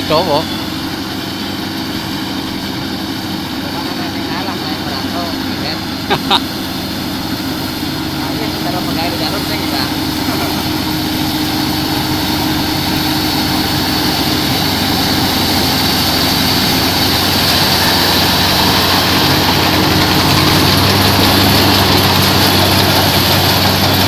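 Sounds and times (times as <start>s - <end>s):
combine harvester droning: 0.0s - 24.0s.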